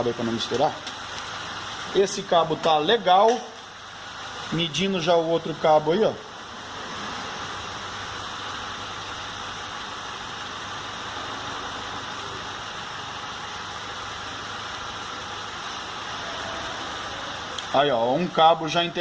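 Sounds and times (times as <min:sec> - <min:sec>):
even hiss: 0:00.0 - 0:19.0
steady mechanical hum: 0:00.0 - 0:19.0.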